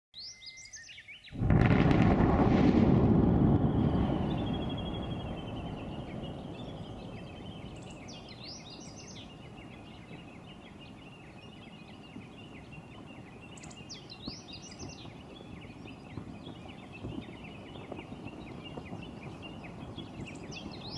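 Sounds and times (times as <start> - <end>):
birds chirping: 0.2 - 2.1, 3.4 - 20.9
volcanic explosion rumbling blast: 1.4 - 20.9.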